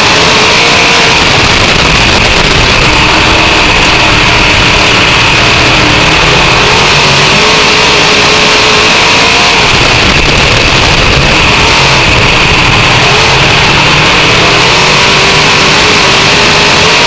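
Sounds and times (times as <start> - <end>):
race car engine running hard: 0.0 - 17.0.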